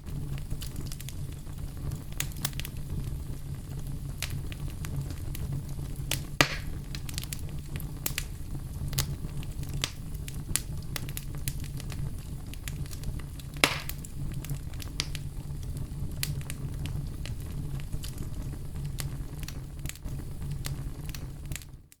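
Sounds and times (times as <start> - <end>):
loud fire pops: 0.0 - 22.0
wood fire crackling: 0.0 - 22.0.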